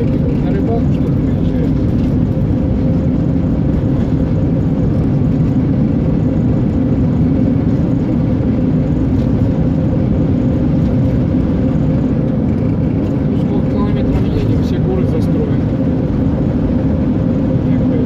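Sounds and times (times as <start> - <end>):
car road noise: 0.0 - 18.0.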